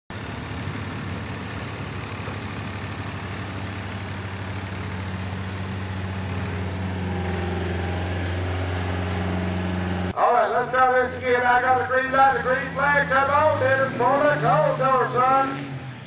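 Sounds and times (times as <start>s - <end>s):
truck diesel engine running: 0.1s - 16.0s.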